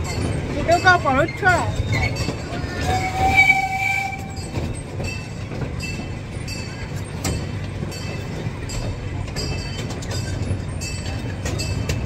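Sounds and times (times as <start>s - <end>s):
small train rumbling on track: 0.0s - 12.0s.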